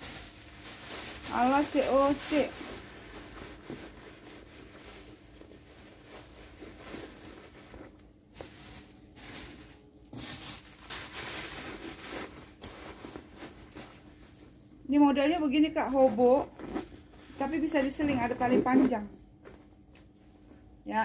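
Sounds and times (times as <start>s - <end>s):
handbag handling noise: 0.0s - 14.6s, 15.6s - 20.7s
plastic crinkling and rustling: 0.0s - 14.6s, 15.3s - 20.8s.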